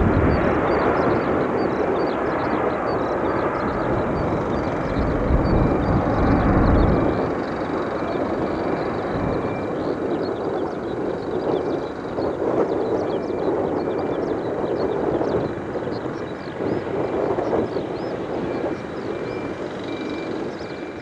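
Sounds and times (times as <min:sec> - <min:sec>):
distant airliner engines roaring: 0:00.0 - 0:21.0.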